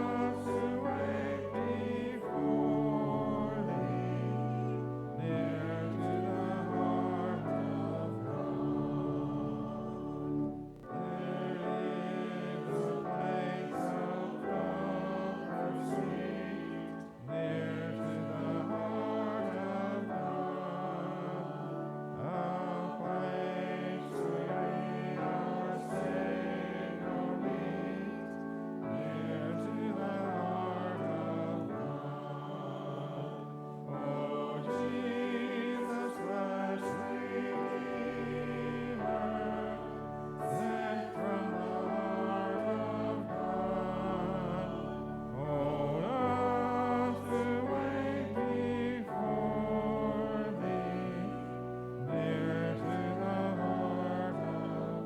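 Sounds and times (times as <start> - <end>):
congregation singing a hymn: 0.0 - 55.0
held accompaniment notes: 0.0 - 55.0.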